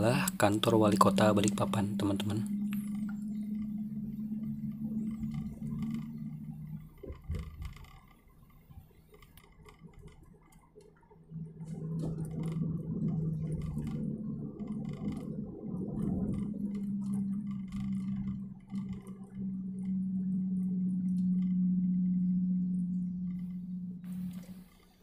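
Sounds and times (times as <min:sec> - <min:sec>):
car engine drone and road noise: 0:00.0 - 0:25.0
light ticks and rattles: 0:00.0 - 0:25.0.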